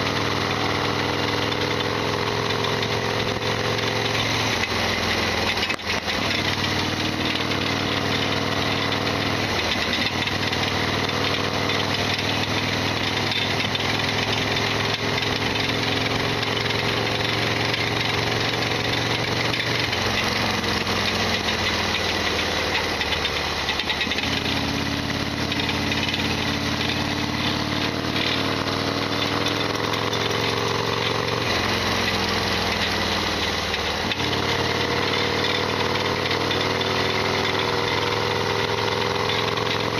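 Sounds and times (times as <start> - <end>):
motorcycle engine revving: 0.0 - 39.9
mechanical rattling: 2.6 - 39.9.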